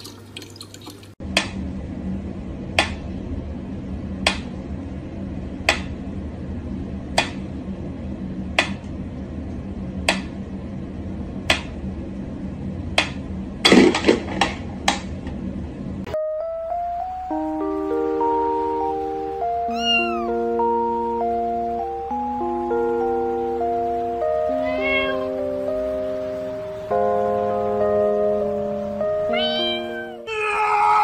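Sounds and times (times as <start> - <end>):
steady low hum: 1.1 - 29.8.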